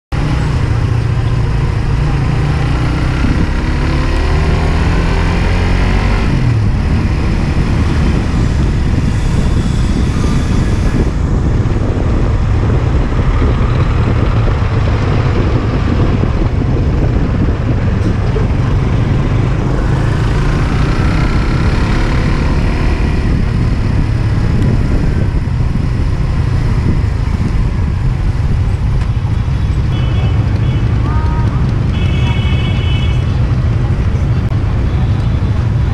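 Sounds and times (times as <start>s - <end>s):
surrounding traffic noise: 0.1s - 35.9s.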